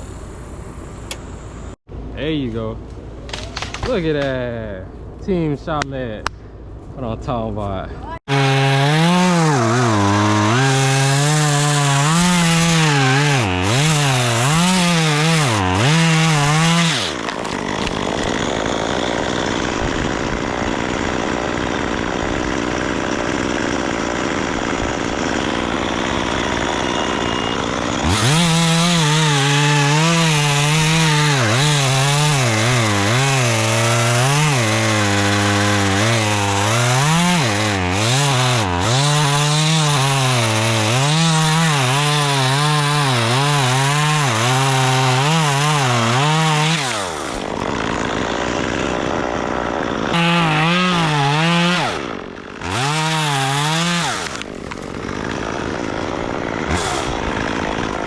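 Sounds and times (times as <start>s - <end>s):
chainsaw running and cutting: 8.2s - 58.0s.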